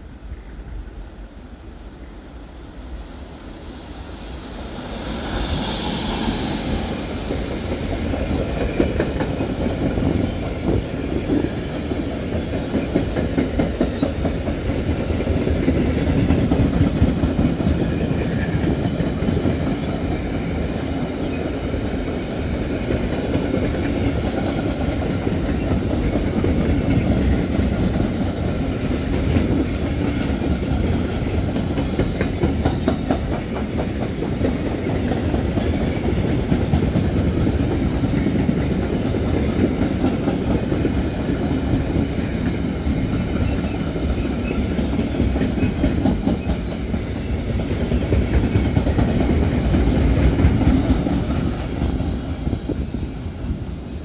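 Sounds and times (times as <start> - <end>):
train wheels rumbling on rail: 2.6 - 54.0.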